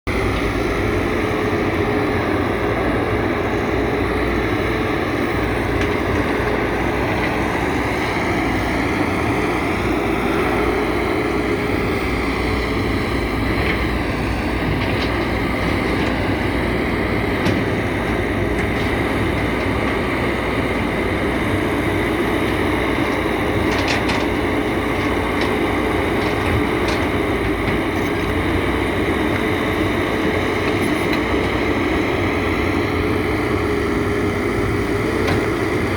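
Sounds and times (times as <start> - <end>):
excavator diesel engine running: 0.1 - 35.9.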